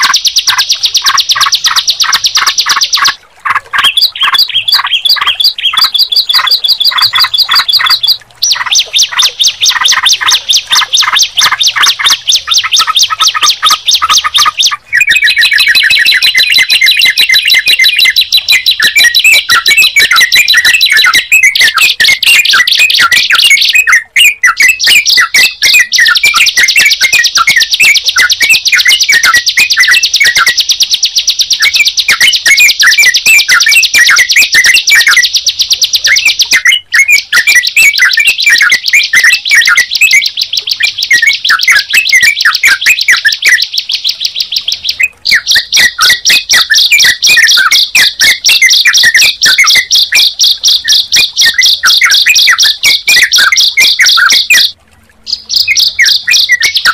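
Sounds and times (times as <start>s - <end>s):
fast high bird trill: 0.0s - 56.9s
lower bird chirping: 0.0s - 56.9s.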